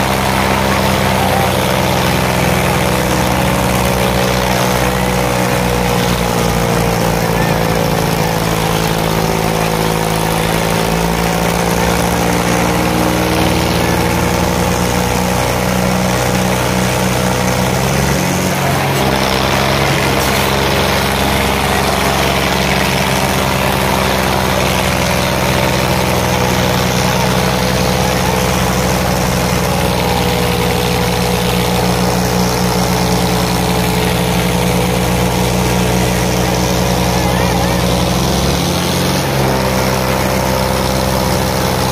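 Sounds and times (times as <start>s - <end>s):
diesel tractor engines running: 0.0s - 41.9s.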